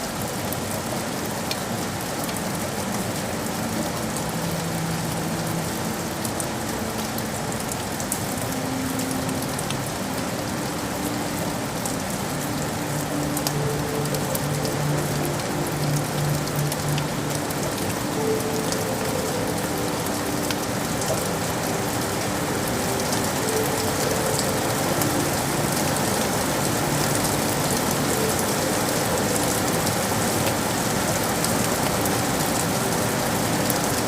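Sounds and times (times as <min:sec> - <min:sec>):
rain on hard surfaces: 0:00.0 - 0:34.0.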